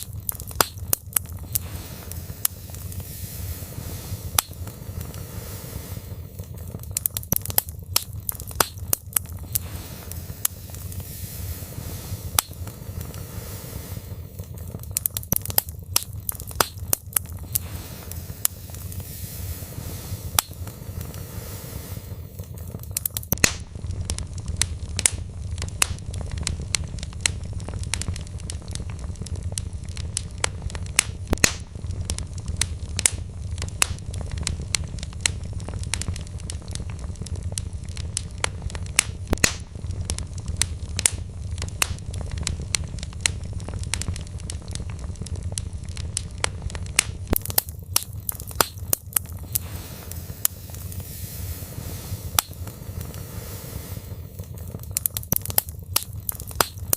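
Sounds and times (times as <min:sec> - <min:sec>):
burning logs popping: 0:00.0 - 0:56.9
flames rushing: 0:00.0 - 0:56.9.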